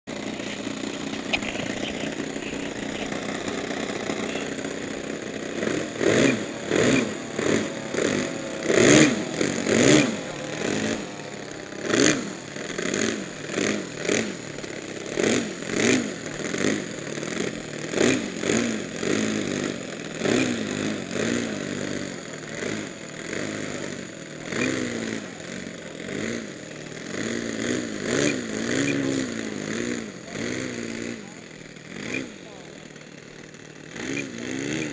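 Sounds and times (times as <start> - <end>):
model plane engines revving: 0.0 - 34.9.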